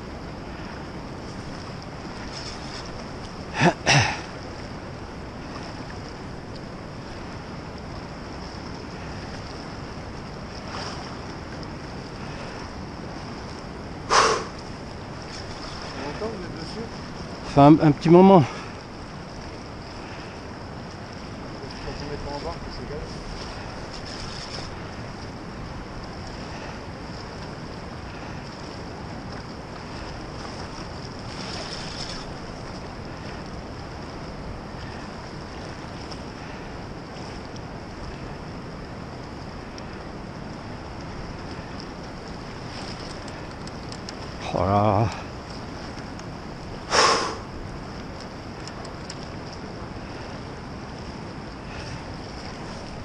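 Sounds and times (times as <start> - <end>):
fast river rushing: 0.0 - 53.0.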